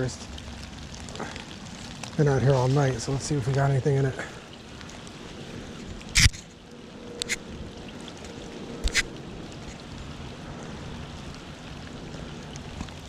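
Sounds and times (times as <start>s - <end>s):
rain falling on water: 0.0s - 13.0s.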